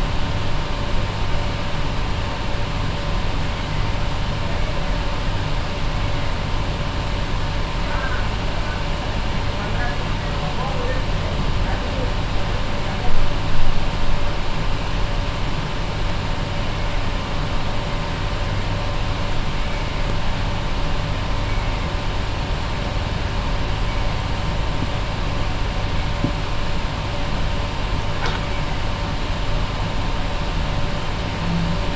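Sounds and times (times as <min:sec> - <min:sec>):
fan hum and hiss: 0:00.0 - 0:31.9.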